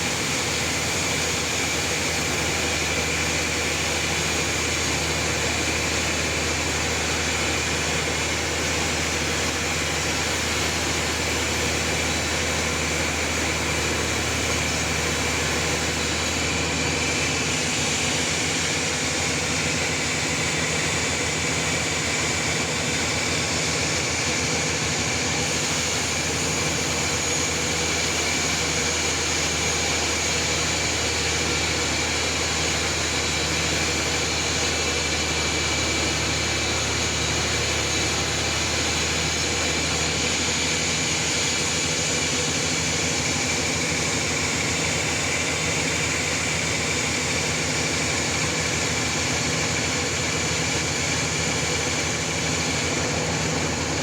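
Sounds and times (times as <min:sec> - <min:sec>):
low motor hum: 0:00.0 - 0:54.0
sawmill sawing a log: 0:00.0 - 0:54.0.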